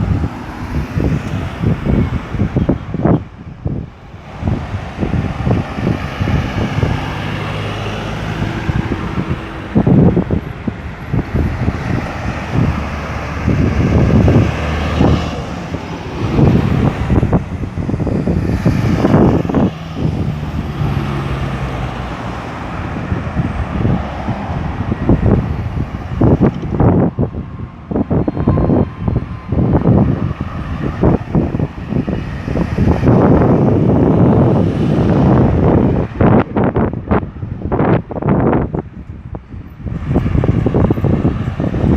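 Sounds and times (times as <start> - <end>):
tyre and road rumble: 0.0 - 41.9
vehicles passing close by: 0.0 - 41.9.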